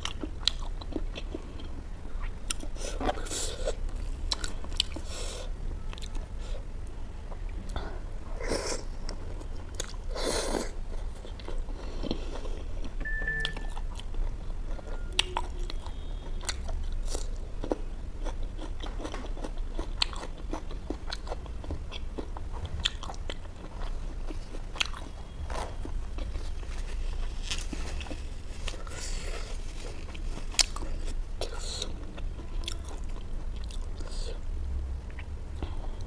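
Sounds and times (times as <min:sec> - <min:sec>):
person chewing food: 0:00.0 - 0:06.6, 0:07.3 - 0:34.4
steady low hum: 0:00.0 - 0:36.0.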